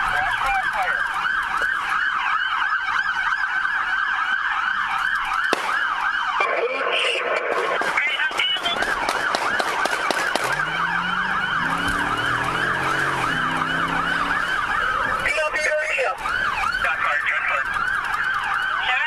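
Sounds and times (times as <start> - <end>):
police siren yelping: 0.0 - 19.0.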